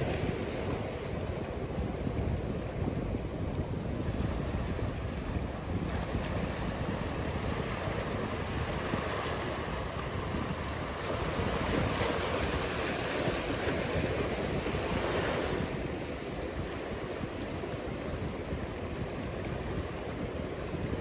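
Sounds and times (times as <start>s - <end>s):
waves breaking: 0.0s - 21.0s.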